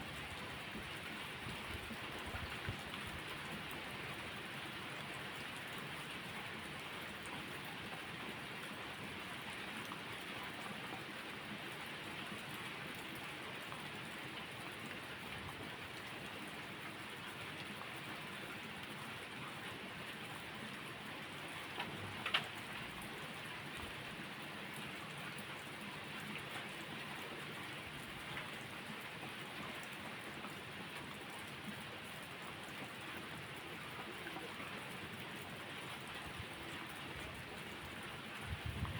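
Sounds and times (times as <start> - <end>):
rain on a surface: 0.0 - 38.9.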